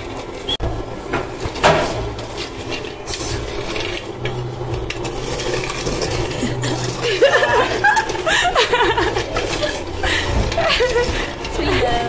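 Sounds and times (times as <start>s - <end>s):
wooden spoon scraping a pot: 1.4s - 12.0s.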